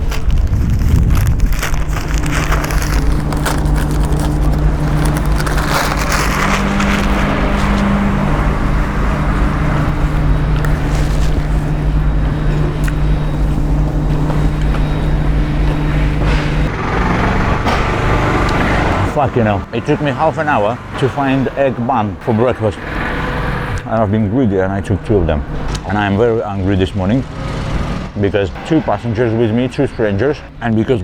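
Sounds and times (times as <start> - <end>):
broad rushing noise: 0.0 - 30.0
car engine running: 0.0 - 30.3.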